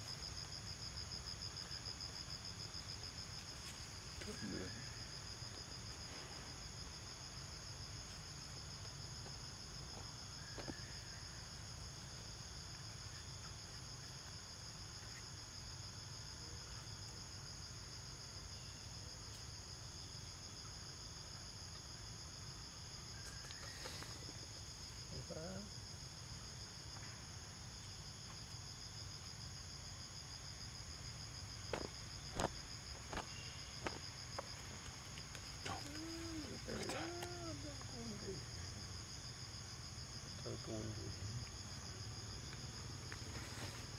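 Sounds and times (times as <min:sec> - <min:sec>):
insect chorus: 0:00.0 - 0:43.9.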